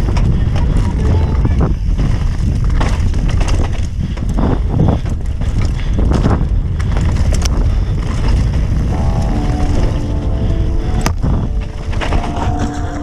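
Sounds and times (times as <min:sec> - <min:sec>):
mountain bike rattling: 0:00.0 - 0:13.0
wind buffeting microphone: 0:00.0 - 0:13.0.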